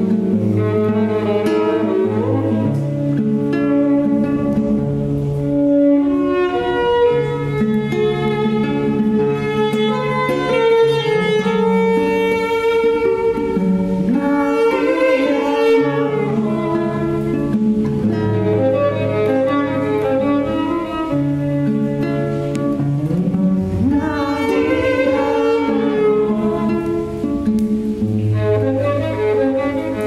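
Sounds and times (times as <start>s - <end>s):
bowed violin notes: 0.0s - 30.0s
plucked acoustic guitar: 0.0s - 30.0s.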